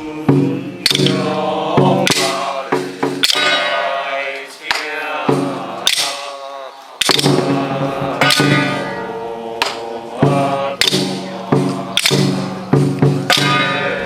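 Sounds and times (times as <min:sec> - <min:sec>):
clashing percussion strikes: 0:00.0 - 0:06.4, 0:07.0 - 0:14.0
steady held tones: 0:00.0 - 0:14.0.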